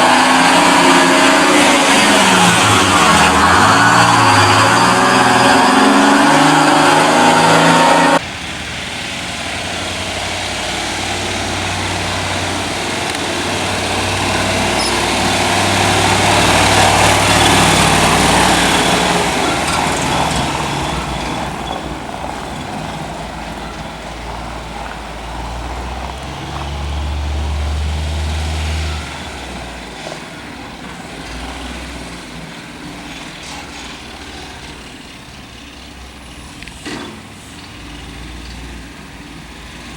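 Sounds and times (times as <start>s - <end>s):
loud engine sound: 0.0s - 39.9s
truck engine passing by: 0.0s - 39.9s.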